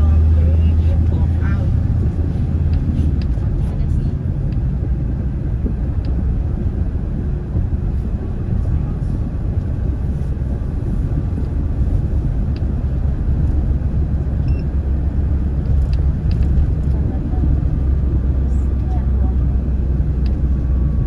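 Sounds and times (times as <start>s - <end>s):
car interior road and engine noise: 0.0s - 21.0s.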